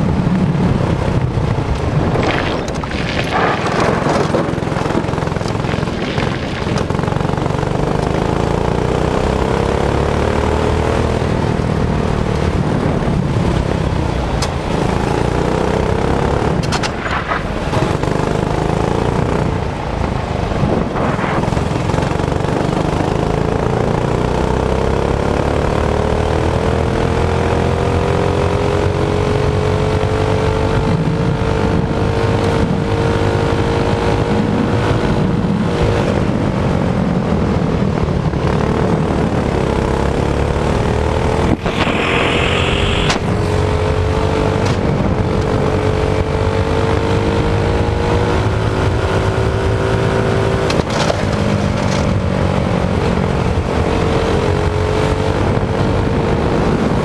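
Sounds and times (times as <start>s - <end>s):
go-kart engine running: 0.0s - 28.2s, 30.7s - 57.0s.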